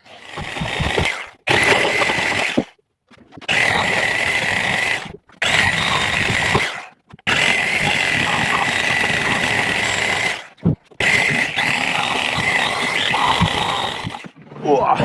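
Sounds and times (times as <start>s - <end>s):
reciprocating saw cutting metal: 0.0s - 2.7s, 3.4s - 14.4s.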